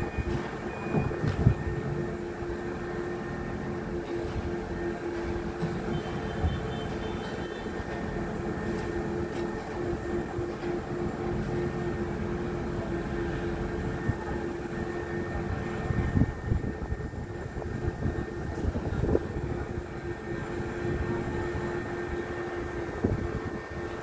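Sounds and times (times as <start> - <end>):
constant machine whine: 0.0 - 24.0
heavy machinery engine drone: 0.0 - 24.0.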